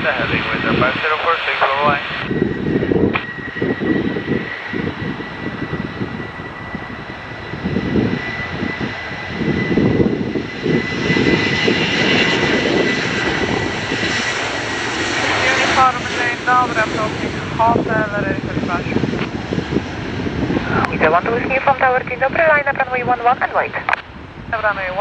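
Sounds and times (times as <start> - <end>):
high engine whine: 0.0 - 25.0
jet engines roaring: 0.0 - 25.0.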